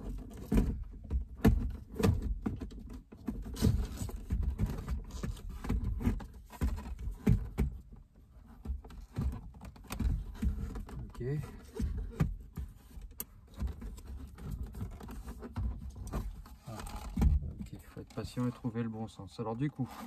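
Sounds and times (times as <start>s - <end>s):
plastic scraping: 0.0s - 7.8s, 8.4s - 20.0s
plastic clicks and knocks: 0.0s - 18.5s.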